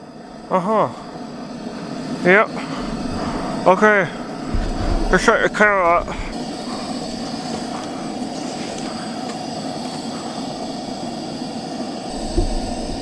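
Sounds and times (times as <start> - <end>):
faint high whine: 0.0 - 13.0
low mechanical hum: 0.0 - 13.0.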